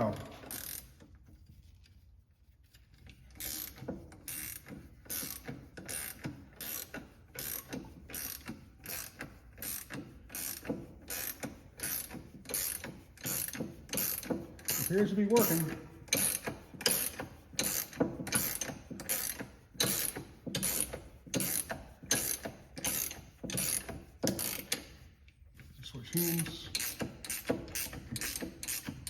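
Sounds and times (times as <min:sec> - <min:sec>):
ratcheting wrench clicking: 0:00.4 - 0:01.2, 0:03.0 - 0:25.0, 0:26.4 - 0:29.0.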